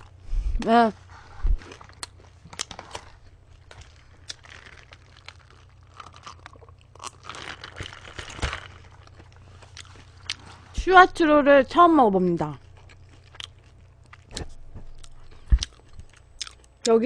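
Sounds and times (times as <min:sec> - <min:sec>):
chewing and crunching food: 0:01.1 - 0:10.8, 0:11.5 - 0:17.0.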